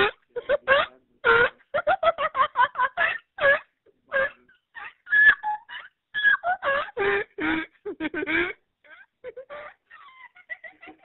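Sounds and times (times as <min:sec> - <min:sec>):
woman laughing hard: 0:00.0 - 0:11.0.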